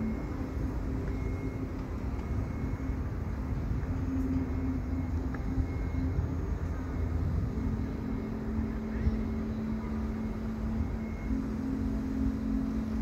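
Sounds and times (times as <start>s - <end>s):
low rumble of city ambience: 0.0s - 13.0s
steady low hum: 0.0s - 13.0s.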